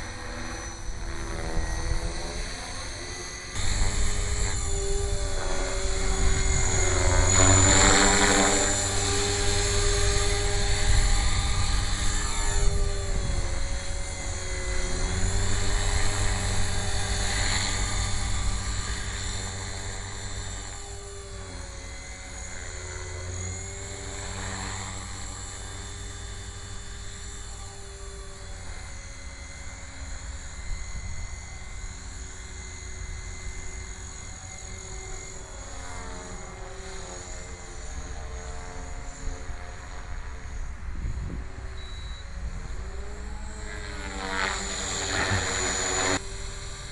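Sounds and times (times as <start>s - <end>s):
rc helicopter motor whine: 0.0s - 46.9s.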